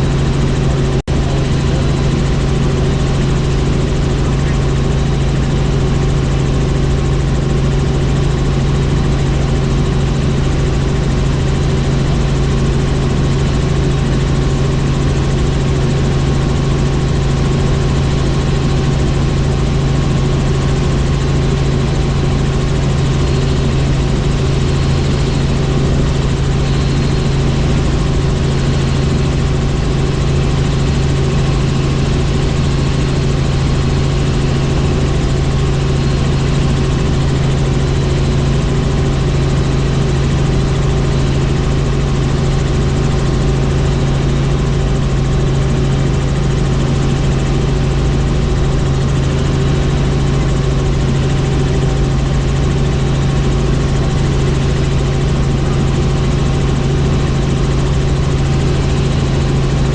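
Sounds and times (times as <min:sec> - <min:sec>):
helicopter rotor and turbine drone: 0:00.0 - 0:59.9.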